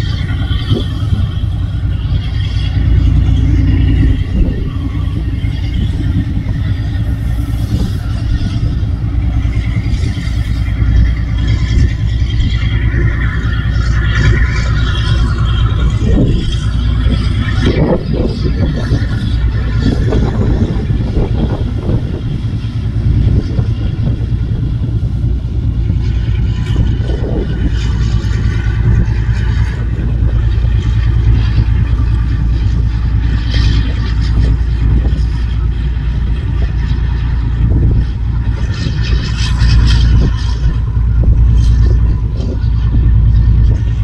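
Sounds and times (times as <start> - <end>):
boat engines rumbling: 0.0 - 44.0
water wash rushing: 0.0 - 44.0.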